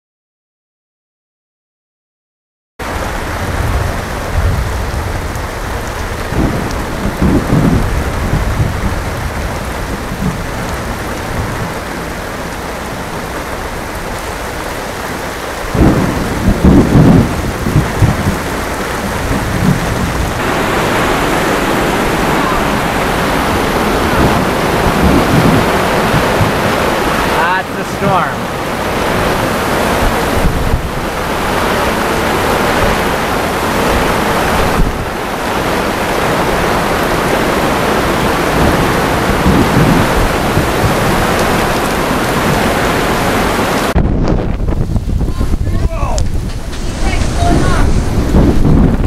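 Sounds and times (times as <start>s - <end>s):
steady rain: 2.8s - 49.0s
thunder rolling: 2.8s - 49.0s.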